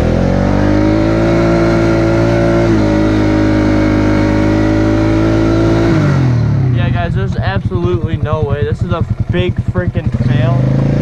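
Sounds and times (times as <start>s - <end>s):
quad bike engine revving: 0.0s - 11.0s.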